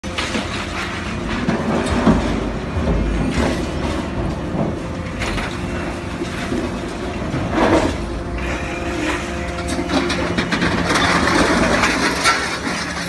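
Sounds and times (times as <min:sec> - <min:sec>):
machine rumble: 0:00.0 - 0:13.0.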